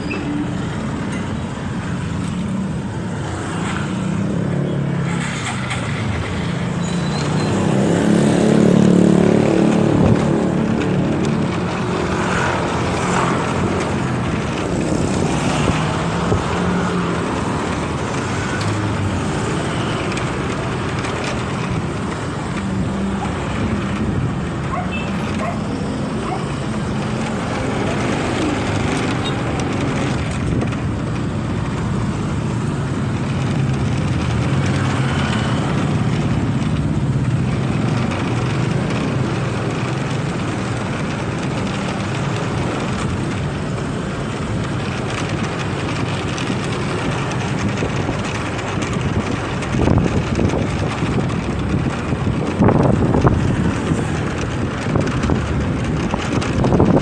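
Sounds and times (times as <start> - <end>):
road noise: 0.0 - 57.0
motorcycle engine running: 7.5 - 57.0
wind buffeting microphone: 7.7 - 57.0.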